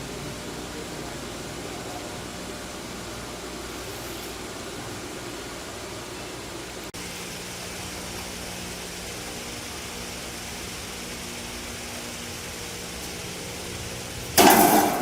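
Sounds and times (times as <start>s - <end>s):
even hiss: 0.0s - 15.0s
mechanical hum: 0.0s - 15.0s.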